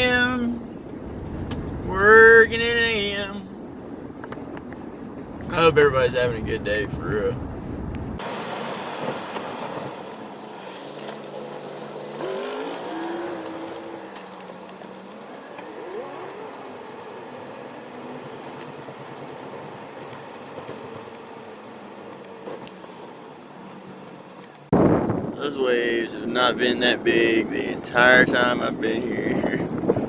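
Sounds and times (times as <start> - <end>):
car driving: 0.0 - 25.5.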